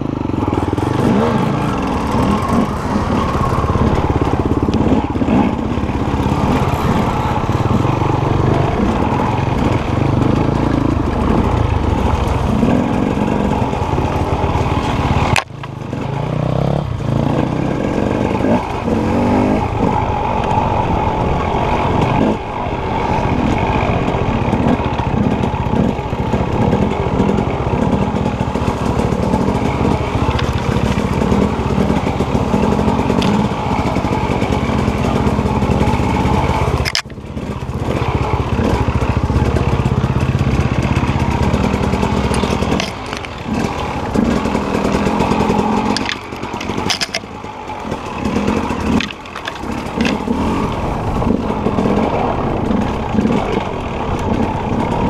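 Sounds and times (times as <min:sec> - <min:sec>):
bike rattling over ground: 0:00.0 - 0:55.0
dirt bike engine revving: 0:00.0 - 0:55.0.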